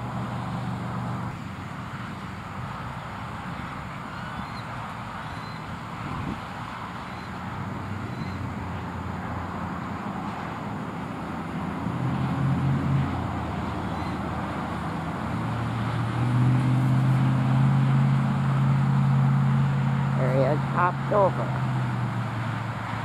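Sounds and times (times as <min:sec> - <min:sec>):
traffic noise: 0:00.0 - 0:23.0
vehicle engine hum: 0:00.0 - 0:23.0.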